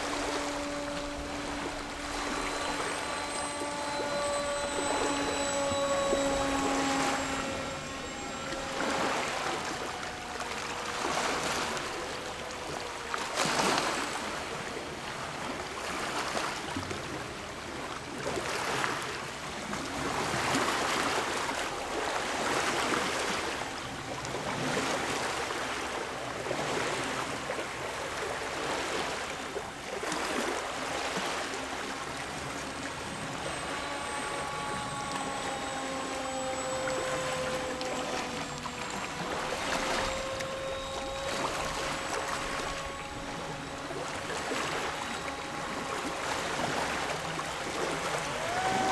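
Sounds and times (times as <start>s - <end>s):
model plane electric motor whine: 0.0s - 48.9s.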